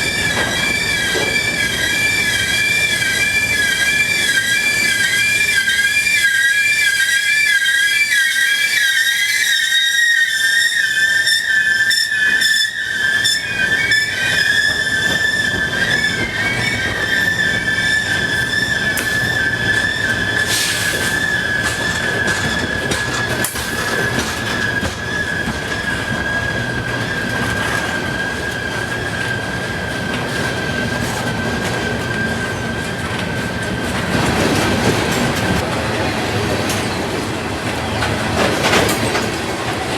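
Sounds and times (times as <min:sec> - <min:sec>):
train wheels squealing: 0:00.0 - 0:35.6
low rumble of train cars: 0:00.0 - 0:39.9.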